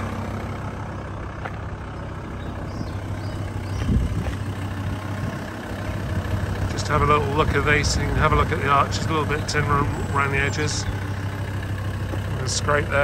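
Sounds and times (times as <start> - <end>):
diesel van engine idling: 0.0 - 13.0.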